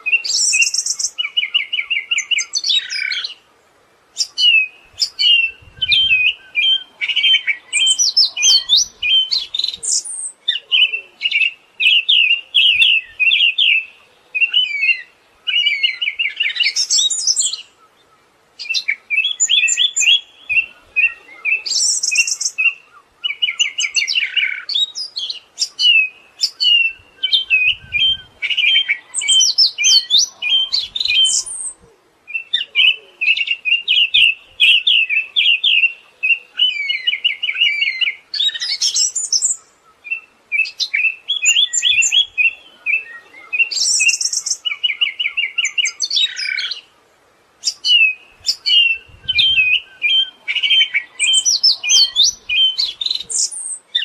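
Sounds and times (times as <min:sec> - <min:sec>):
thrush singing trills and chirps: 0:00.0 - 0:03.5, 0:04.1 - 0:47.0, 0:47.6 - 0:54.0.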